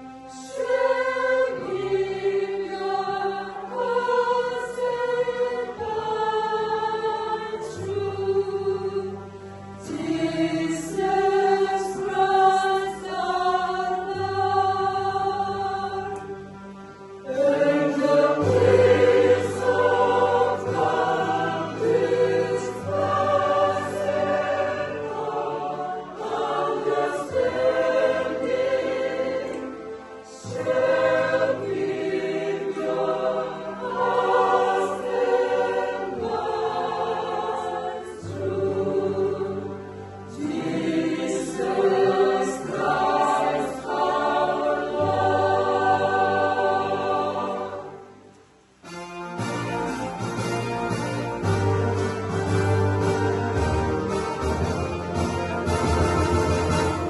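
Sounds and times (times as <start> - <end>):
choir singing held notes: 0.0 - 50.0.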